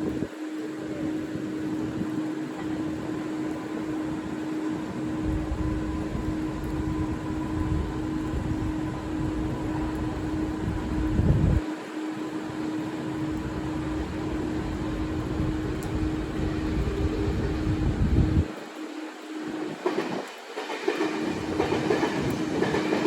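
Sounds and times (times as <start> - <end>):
low train rumble: 0.0 - 23.0
train electric hum: 0.0 - 23.0.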